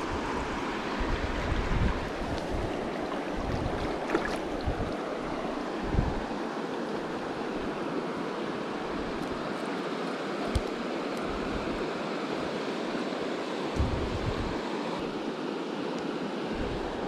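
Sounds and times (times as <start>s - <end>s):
water rushing over stones: 0.0s - 17.0s.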